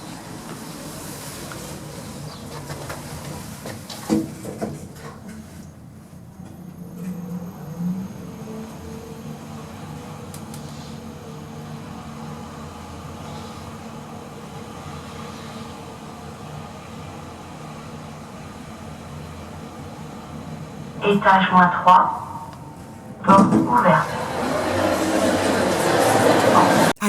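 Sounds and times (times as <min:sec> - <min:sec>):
lift car humming: 0:00.0 - 0:27.0.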